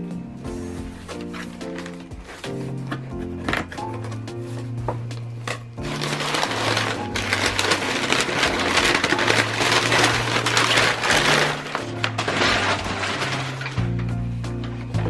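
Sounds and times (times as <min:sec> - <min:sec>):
background music with bass line: 0:00.0 - 0:15.0
packaging crinkling and rustling: 0:01.1 - 0:04.7, 0:05.5 - 0:14.1.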